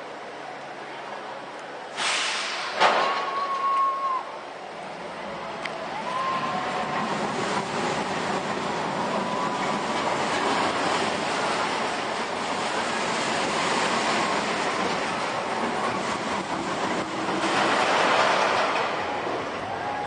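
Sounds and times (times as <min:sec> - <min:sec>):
roller coaster wheels on rails: 0:00.0 - 0:20.0.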